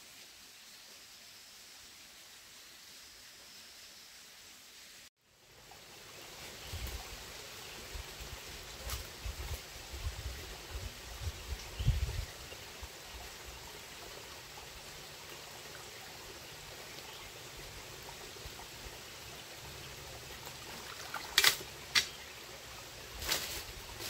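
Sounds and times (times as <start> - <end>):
stream trickling over rocks: 0.0 - 24.0.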